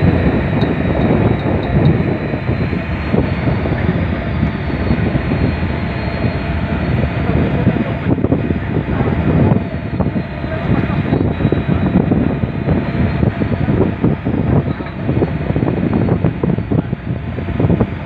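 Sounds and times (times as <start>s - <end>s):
faint high whine: 0.0s - 17.2s
ship machinery noise: 0.0s - 18.0s
wind buffeting microphone: 0.0s - 18.0s.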